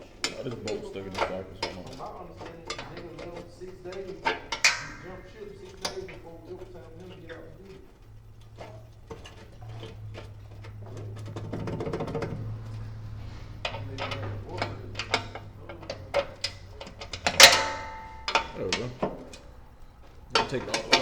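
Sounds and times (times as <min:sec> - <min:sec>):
ringing metallic clang: 0:00.0 - 0:21.0
low hum: 0:01.6 - 0:20.9.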